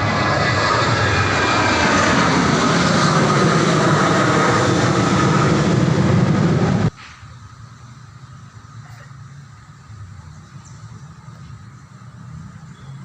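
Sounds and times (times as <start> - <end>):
airplane passing overhead: 0.0 - 13.0.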